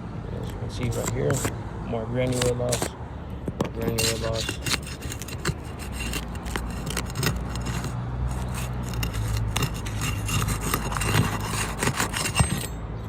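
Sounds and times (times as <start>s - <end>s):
shingle scraping and clicking: 0.4s - 1.6s, 2.2s - 12.8s.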